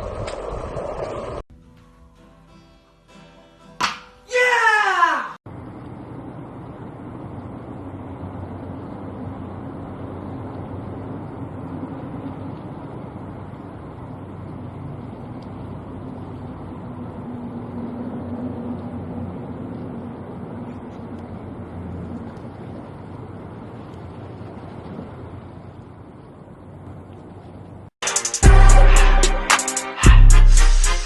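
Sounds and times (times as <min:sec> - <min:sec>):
engine-like hum: 0:00.0 - 0:01.4, 0:05.5 - 0:31.0
wash of noise: 0:05.0 - 0:31.0.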